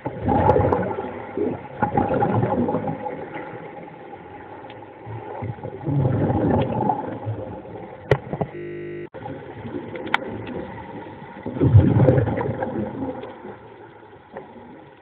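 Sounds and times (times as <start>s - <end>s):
muffled underwater water rushing: 0.0s - 8.6s, 9.2s - 15.0s.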